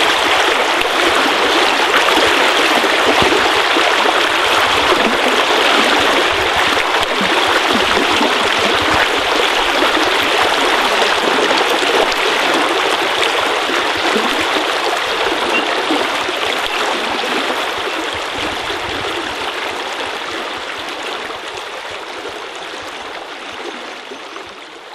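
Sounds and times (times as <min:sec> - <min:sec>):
water rushing and babbling: 0:00.0 - 0:24.9.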